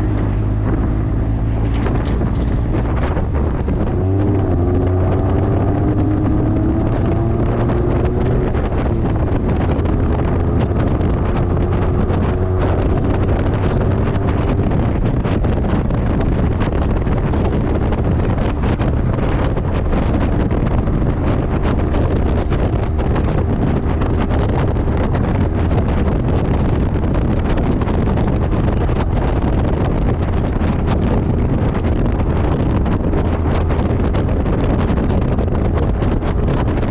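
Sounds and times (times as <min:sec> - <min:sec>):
motorcycle exhaust: 0:00.0 - 0:36.9
wind noise on microphone: 0:00.0 - 0:36.9.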